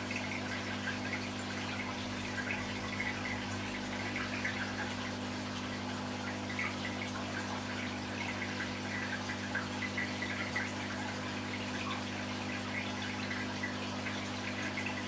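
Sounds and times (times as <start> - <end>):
pump motor hum: 0.0 - 15.0
water trickling and bubbling: 0.0 - 15.0.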